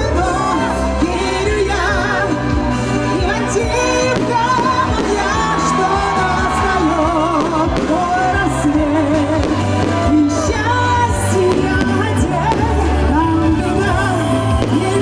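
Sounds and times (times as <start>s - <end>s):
crowd singing along: 0.0s - 15.0s
live pop song with band: 0.0s - 15.0s.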